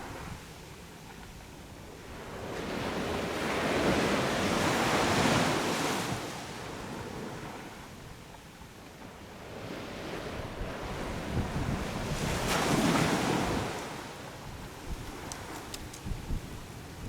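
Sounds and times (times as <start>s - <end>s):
sea waves breaking on beach: 0.0s - 8.0s, 9.0s - 17.0s.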